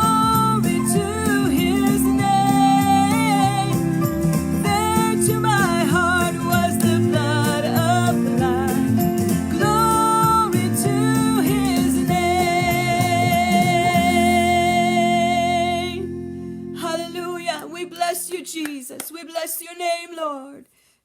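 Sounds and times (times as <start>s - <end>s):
person singing worship song: 0.0s - 3.8s, 4.6s - 20.8s
guitar accompaniment: 0.0s - 18.4s.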